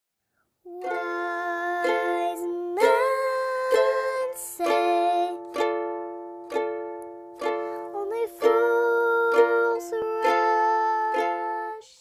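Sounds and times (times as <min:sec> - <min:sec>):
plucked-string chords: 0:00.8 - 0:11.7.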